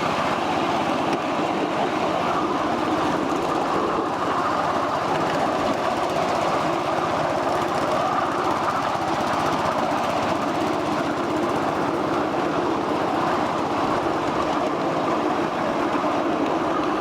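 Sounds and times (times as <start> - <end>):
miniature train wheels rattling on rails: 0.0 - 17.0.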